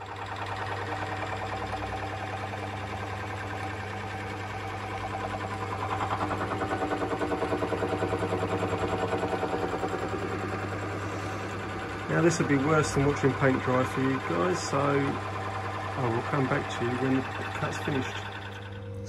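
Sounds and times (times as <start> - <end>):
lathe humming with rapid pulsing: 0.0 - 19.0.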